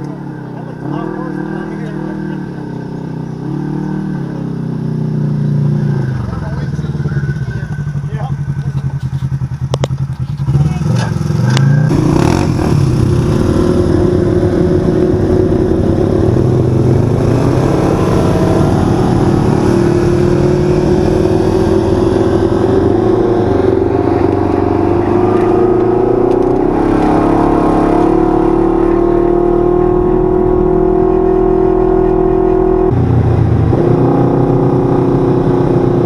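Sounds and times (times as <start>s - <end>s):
utility vehicle engine under throttle: 0.0s - 36.0s.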